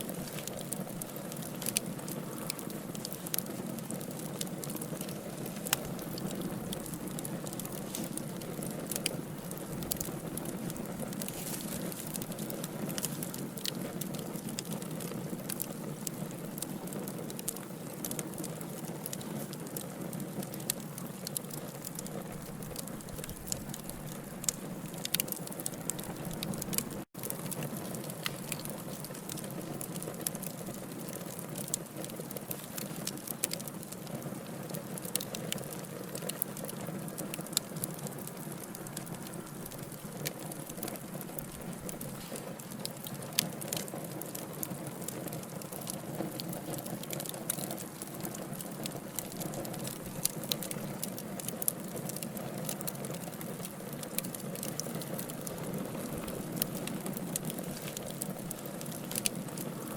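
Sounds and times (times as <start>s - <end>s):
burning logs crackling: 0.0s - 59.9s.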